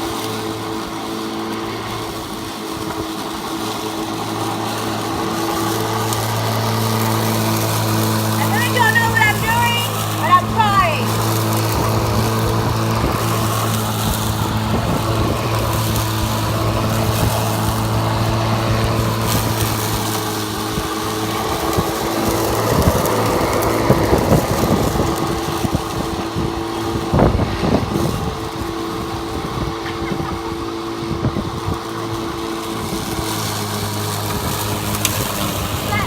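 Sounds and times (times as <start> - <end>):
electric lawn mower humming: 0.0 - 36.0.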